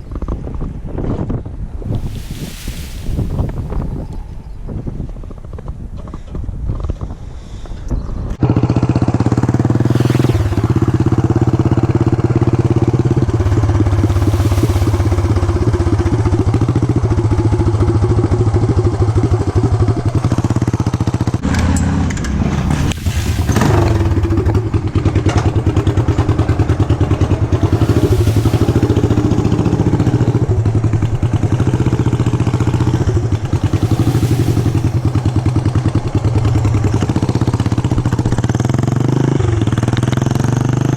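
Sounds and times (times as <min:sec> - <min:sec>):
wind noise: 0:00.0 - 0:08.4, 0:09.3 - 0:38.8.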